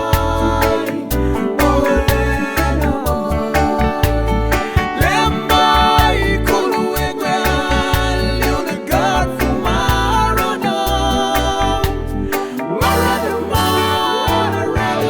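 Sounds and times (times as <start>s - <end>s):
upbeat music with singing: 0.0s - 15.0s.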